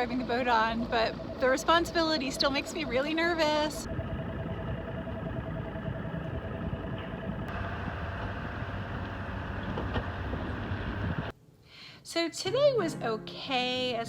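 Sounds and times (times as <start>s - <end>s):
outboard motor running: 0.0s - 11.3s.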